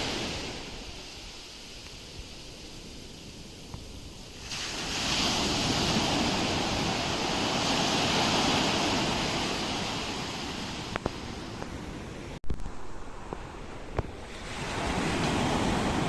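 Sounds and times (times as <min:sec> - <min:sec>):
ocean waves breaking on shore: 0:00.0 - 0:16.0.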